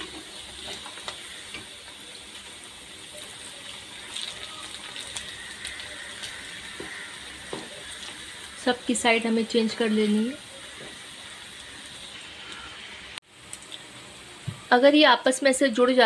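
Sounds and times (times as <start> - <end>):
oil sizzling: 0.0 - 16.0.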